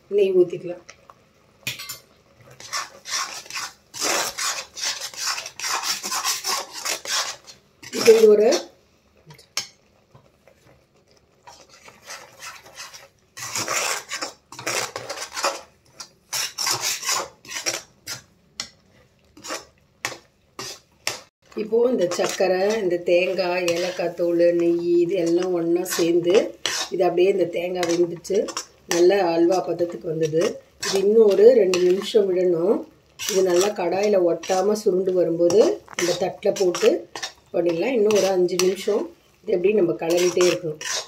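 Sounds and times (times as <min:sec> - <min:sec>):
metal spatula scraping metal pan: 0:01.7 - 0:08.7, 0:11.4 - 0:18.7, 0:19.4 - 0:41.0.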